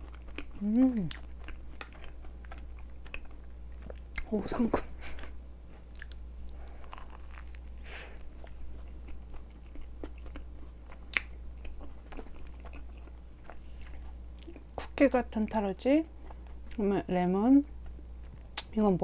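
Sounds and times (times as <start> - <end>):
chewing with wet mouth sounds: 0.0 - 15.0, 16.2 - 19.0.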